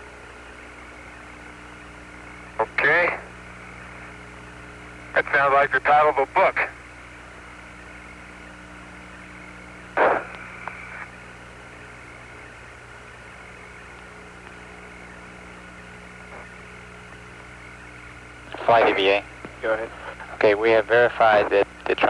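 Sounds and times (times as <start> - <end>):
radio hiss with low hum: 0.0 - 22.0
static burst: 2.2 - 22.0.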